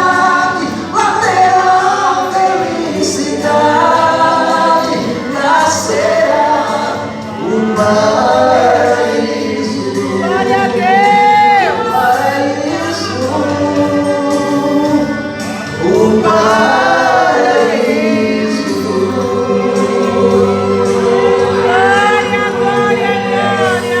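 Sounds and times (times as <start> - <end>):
sustained accompaniment: 0.0 - 24.0
voices singing a hymn: 0.0 - 24.0.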